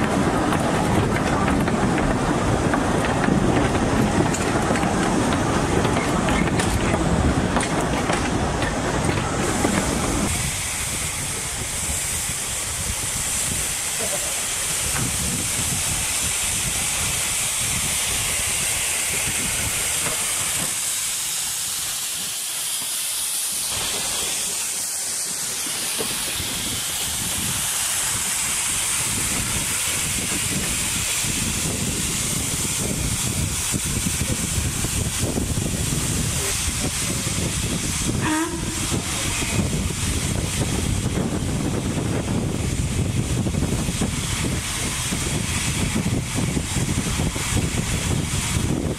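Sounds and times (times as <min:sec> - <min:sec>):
steam locomotive hissing steam: 0:00.0 - 0:48.9.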